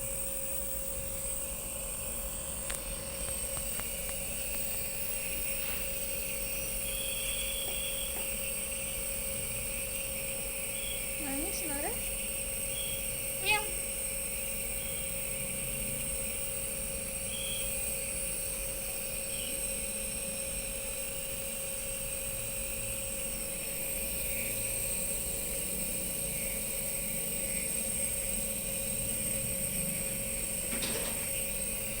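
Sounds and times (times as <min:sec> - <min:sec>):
nebulizer motor hum with hiss: 0:00.0 - 0:32.0.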